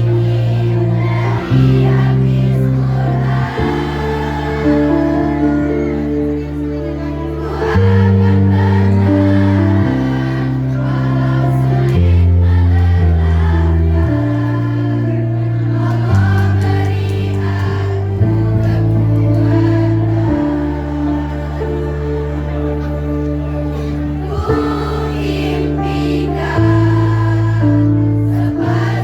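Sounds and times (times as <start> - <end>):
choir singing in unison: 0.0 - 29.0
sustained low accompaniment chords: 0.0 - 29.0.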